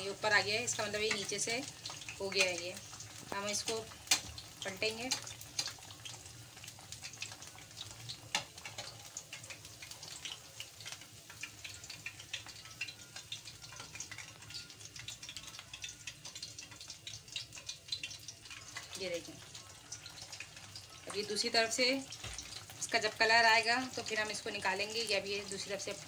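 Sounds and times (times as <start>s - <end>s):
oil sizzling and crackling: 0.0s - 26.0s.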